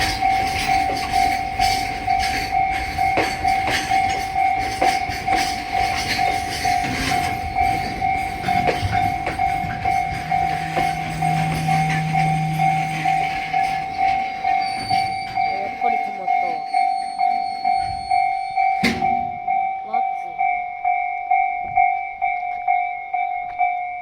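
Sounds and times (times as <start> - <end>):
level crossing alarm ringing: 0.0 - 24.0.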